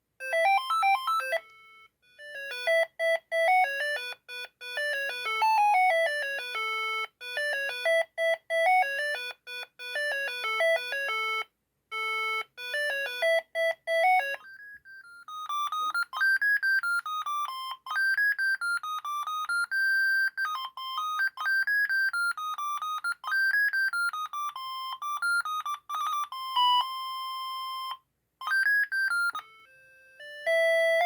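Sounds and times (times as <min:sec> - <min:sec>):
mobile phone ringtone melody: 0:00.2 - 0:31.0.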